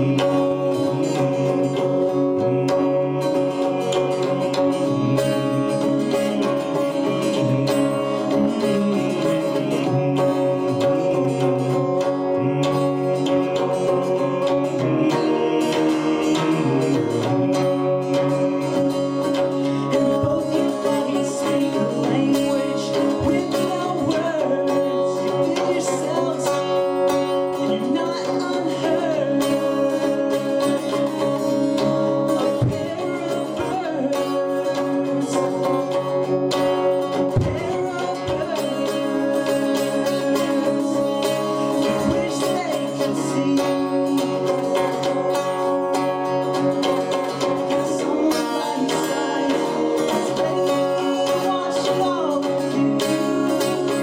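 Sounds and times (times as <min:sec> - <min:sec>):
acoustic guitar chords: 0:00.0 - 0:54.0
man singing: 0:00.0 - 0:54.0.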